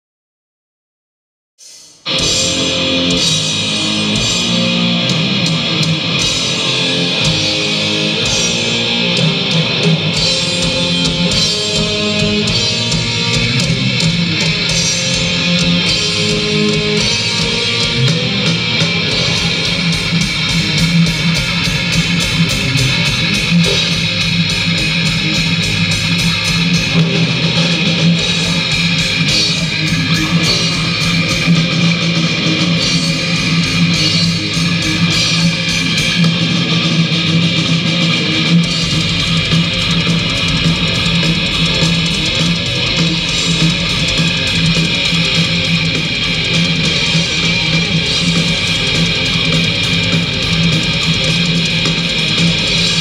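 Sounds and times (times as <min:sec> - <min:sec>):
heavy metal band playing live: 0:01.6 - 0:53.0
fast drumming: 0:02.1 - 0:53.0.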